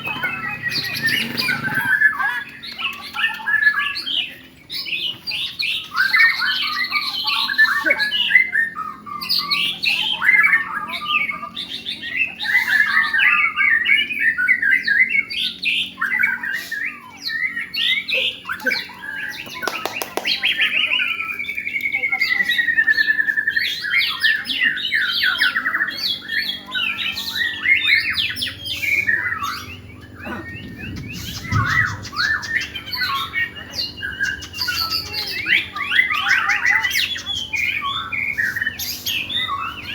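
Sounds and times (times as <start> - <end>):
caged songbirds singing: 0.0 - 39.9.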